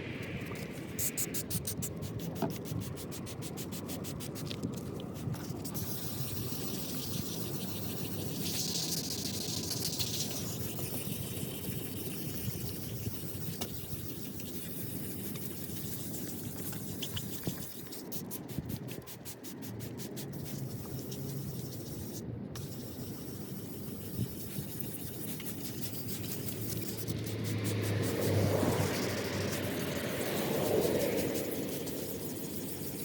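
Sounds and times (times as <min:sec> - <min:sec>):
sandpaper scraping plastic: 0:00.6 - 0:33.0.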